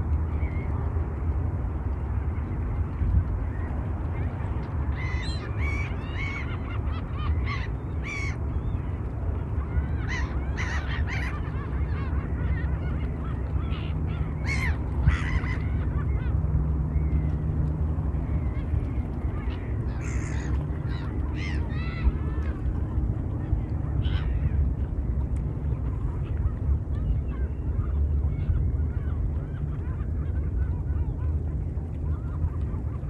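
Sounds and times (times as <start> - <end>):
steady low rumble: 0.0 - 33.0
waterbirds honking and squawking: 2.3 - 33.0.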